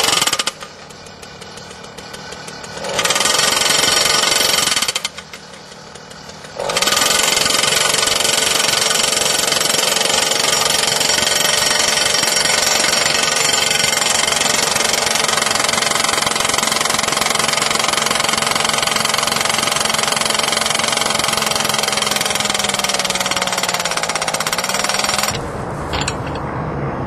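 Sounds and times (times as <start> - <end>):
demolition hammer hammering: 0.0 - 25.4.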